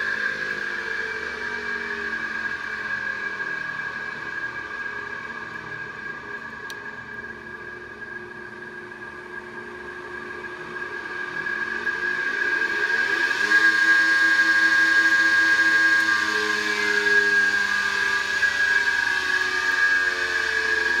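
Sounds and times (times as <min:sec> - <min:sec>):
electric motor hum and whine: 0:00.0 - 0:21.0
steady high whine: 0:00.0 - 0:21.0.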